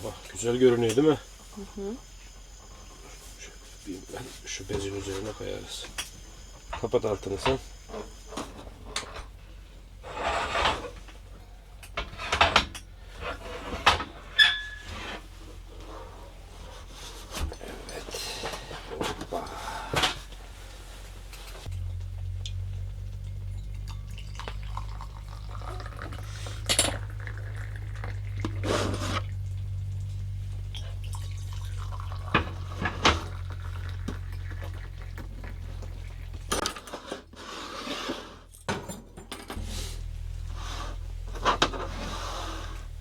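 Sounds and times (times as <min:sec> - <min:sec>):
steady low hum: 0:00.0 - 0:36.9, 0:39.5 - 0:43.0.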